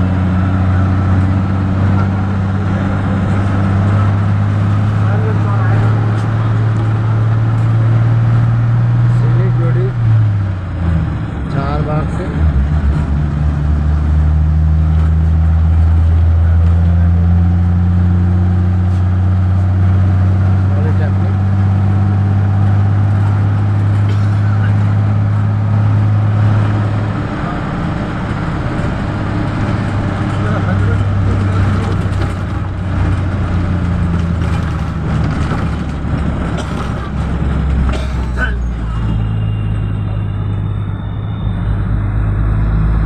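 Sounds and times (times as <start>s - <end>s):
low vehicle engine drone: 0.0s - 43.0s
road noise: 0.0s - 43.0s.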